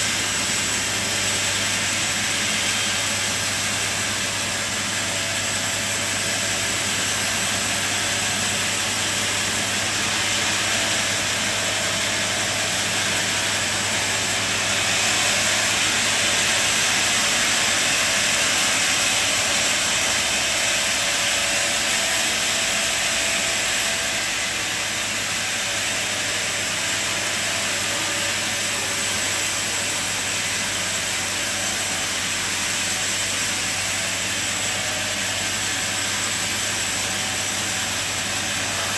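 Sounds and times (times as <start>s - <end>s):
saw blade hissing through log: 0.0s - 38.9s
sawmill low hum: 0.0s - 38.9s.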